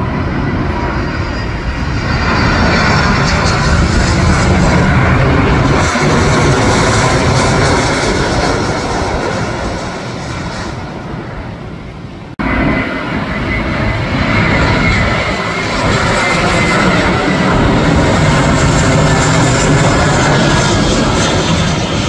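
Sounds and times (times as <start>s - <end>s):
airliner engines with high whine: 0.0s - 22.0s
jet engines passing overhead: 0.0s - 22.0s.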